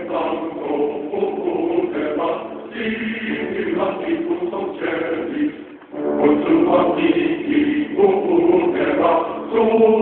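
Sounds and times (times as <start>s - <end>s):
voices chanting together: 0.0s - 10.0s.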